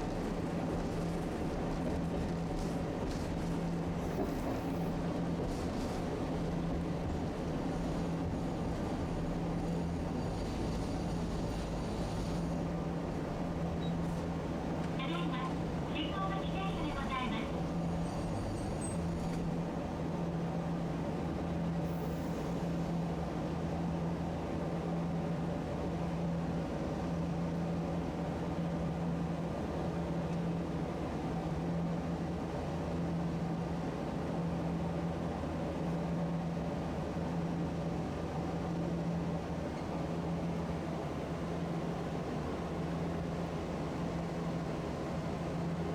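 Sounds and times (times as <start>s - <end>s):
streetcar running: 0.0s - 45.9s.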